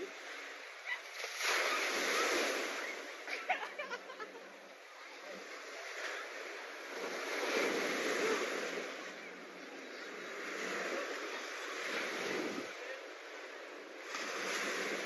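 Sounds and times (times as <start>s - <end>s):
waves washing onto beach: 0.0s - 15.0s.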